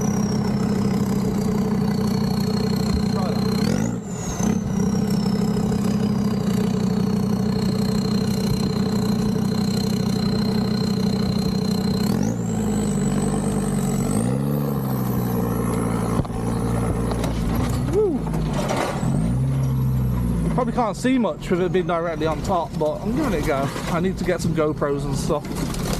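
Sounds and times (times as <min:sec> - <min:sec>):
diesel engine running at low revs: 0:00.0 - 0:25.9.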